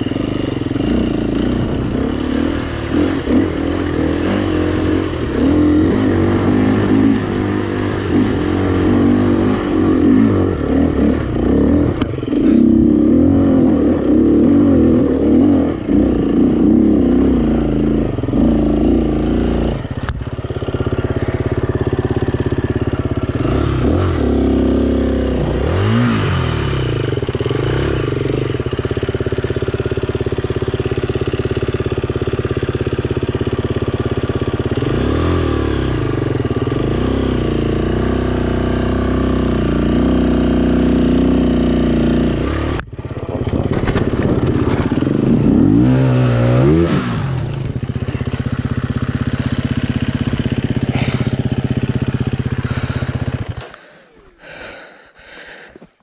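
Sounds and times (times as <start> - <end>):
dirt bike engine revving: 0.0 - 55.7.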